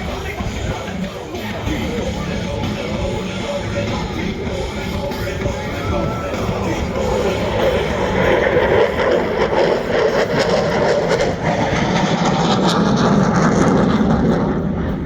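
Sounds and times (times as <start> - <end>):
fighter jet flying by: 0.0 - 15.0.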